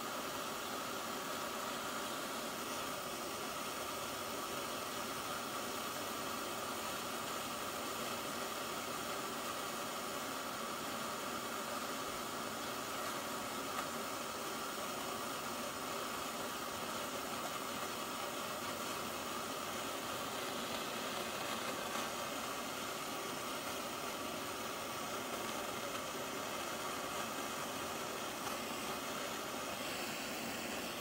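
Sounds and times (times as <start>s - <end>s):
gas torch flame hissing: 0.0s - 31.0s.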